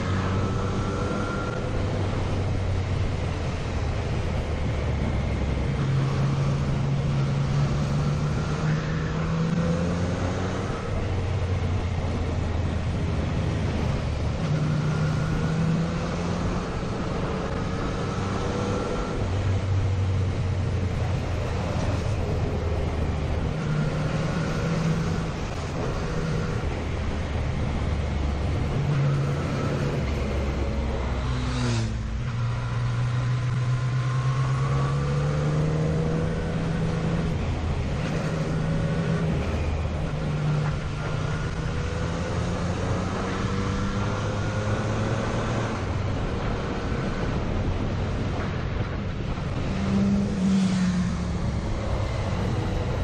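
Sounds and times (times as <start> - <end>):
motorcycle engine revving: 0.0 - 48.3.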